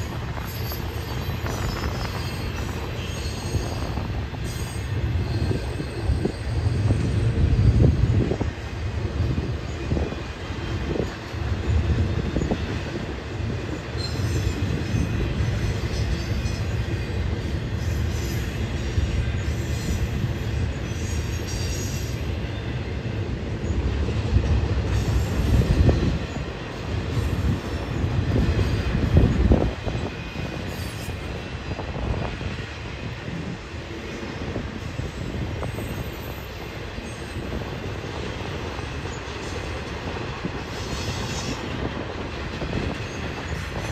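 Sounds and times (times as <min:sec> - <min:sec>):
freight train rumble and clatter: 0:00.0 - 0:43.9
train wheel squeal: 0:00.0 - 0:43.9.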